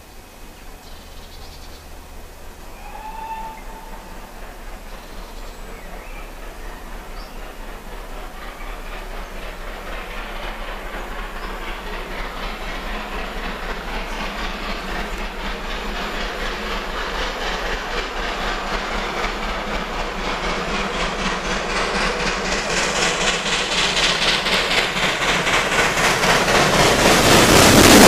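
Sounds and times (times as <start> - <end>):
steam locomotive exhaust beats: 0.0 - 28.0.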